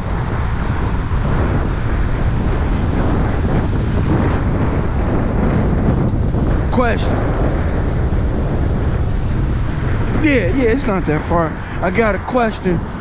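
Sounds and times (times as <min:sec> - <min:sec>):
car traffic: 0:00.0 - 0:13.0
wind rumbling on microphone: 0:00.0 - 0:13.0.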